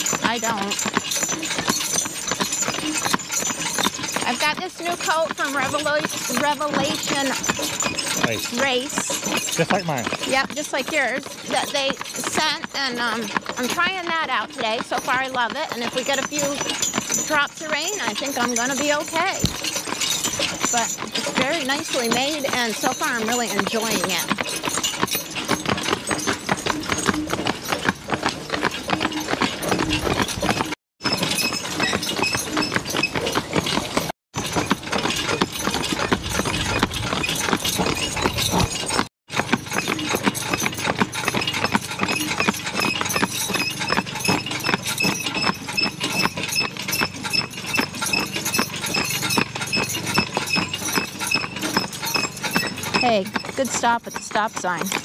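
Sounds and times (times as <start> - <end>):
horse hooves on paved road: 0.0 - 55.0.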